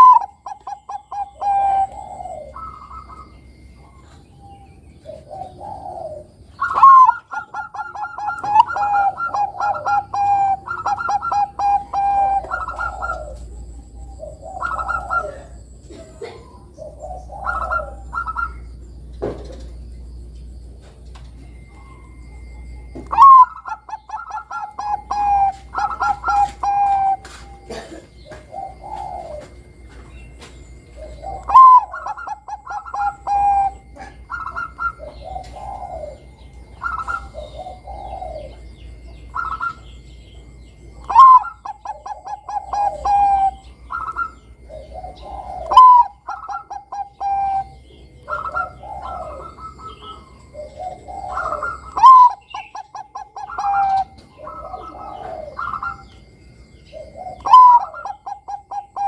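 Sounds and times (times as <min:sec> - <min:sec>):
dove cooing song: 0:00.0 - 0:59.0.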